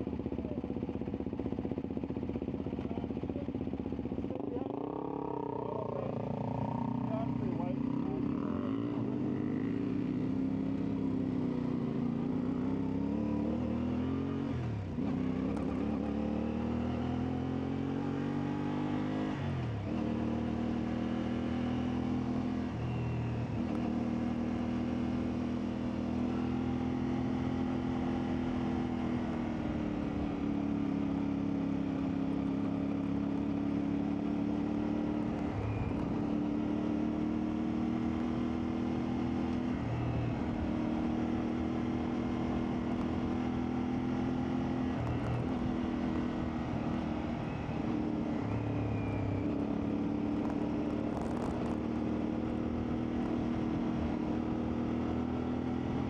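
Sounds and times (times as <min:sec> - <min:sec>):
motorcycle engine revving: 0:00.2 - 0:56.0.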